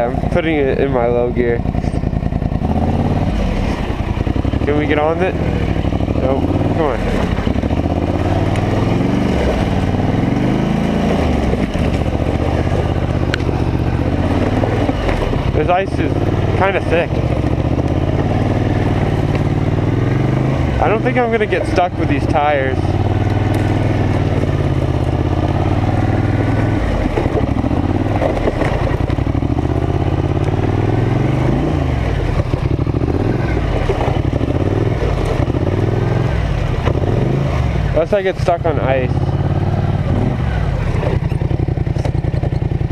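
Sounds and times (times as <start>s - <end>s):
atv engine running under load: 0.0s - 42.9s.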